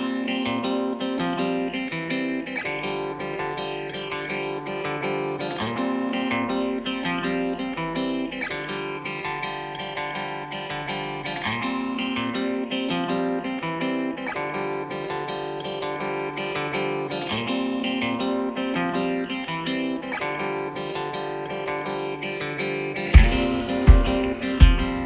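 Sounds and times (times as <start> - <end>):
plucked guitar music: 0.0 - 25.0.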